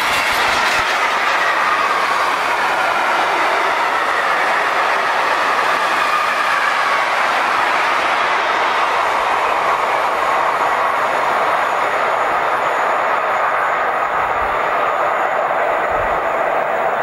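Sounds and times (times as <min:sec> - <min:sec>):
freight train wheels rushing on track: 0:00.0 - 0:17.0.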